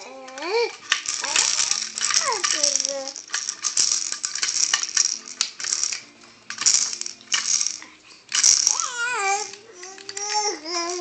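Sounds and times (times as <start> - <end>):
small hard objects rattling: 0.2 - 11.0.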